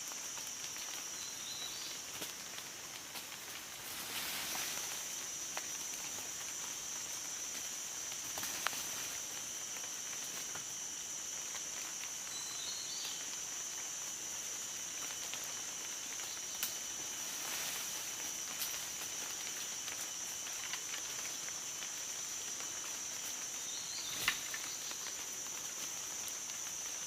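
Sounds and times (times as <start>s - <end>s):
insect high-pitched drone: 0.0s - 27.0s
outdoor background noise: 0.0s - 27.0s.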